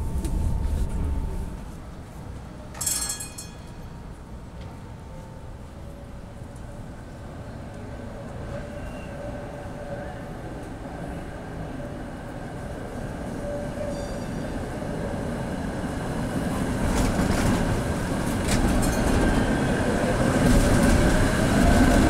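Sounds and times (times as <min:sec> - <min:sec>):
trams rolling past: 0:00.0 - 0:22.0.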